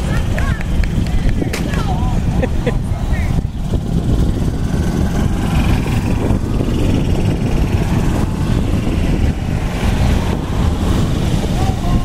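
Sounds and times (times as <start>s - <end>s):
golf carts driving past: 0.0s - 12.0s
wind buffeting microphone: 0.0s - 12.0s.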